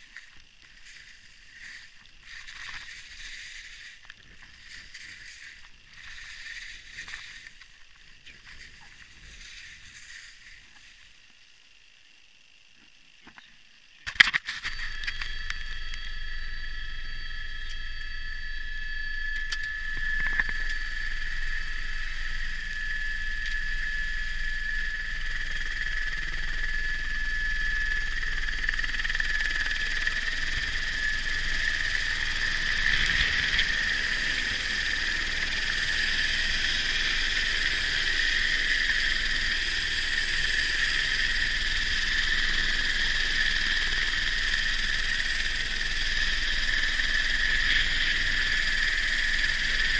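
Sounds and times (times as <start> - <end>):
helicopter turbine whine: 0.0 - 49.9.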